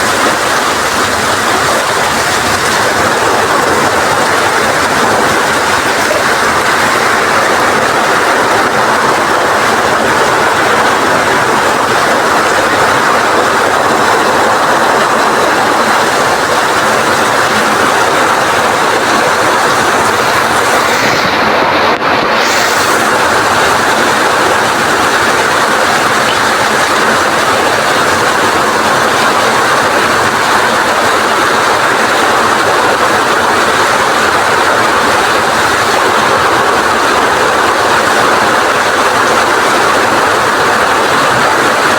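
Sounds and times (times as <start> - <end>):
heavy rain in strong wind: 0.0 - 41.9.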